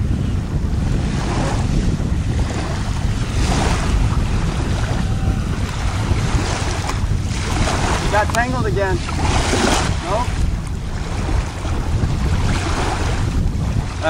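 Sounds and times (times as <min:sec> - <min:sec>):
choppy sea water splashing: 0:00.0 - 0:14.0
wind buffeting microphone: 0:00.0 - 0:14.0.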